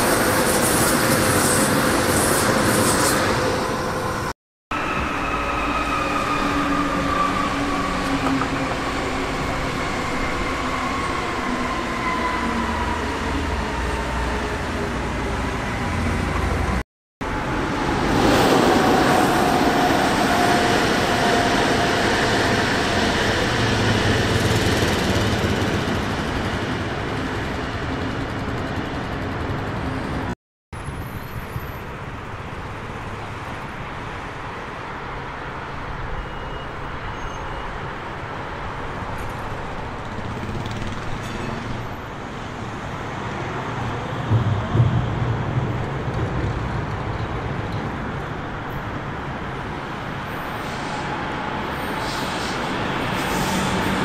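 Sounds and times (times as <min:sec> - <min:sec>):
train rolling and rumbling: 0:00.0 - 0:36.1, 0:38.1 - 0:54.0.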